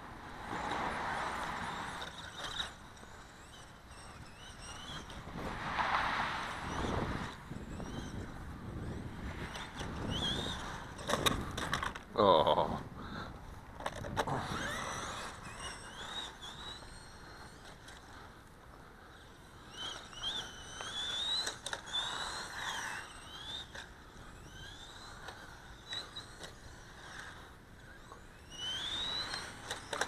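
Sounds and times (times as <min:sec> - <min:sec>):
electric motor whine: 0:00.0 - 0:12.6, 0:13.3 - 0:30.0.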